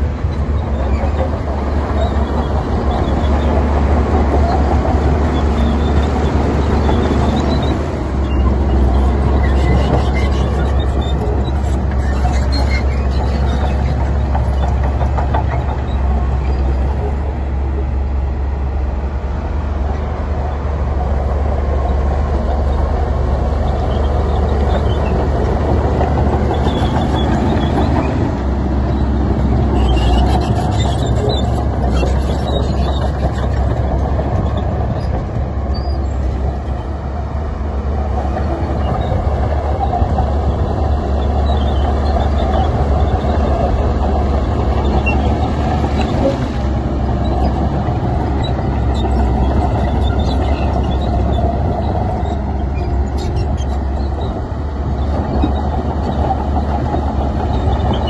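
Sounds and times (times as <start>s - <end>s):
heavy machinery engine rumble: 0.0s - 58.0s.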